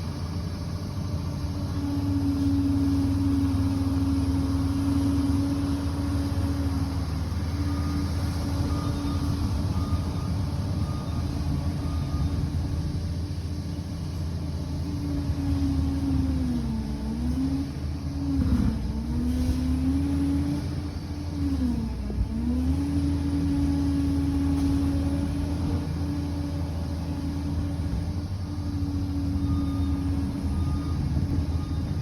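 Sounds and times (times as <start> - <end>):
bulldozer diesel engine running hard: 0.0 - 32.0.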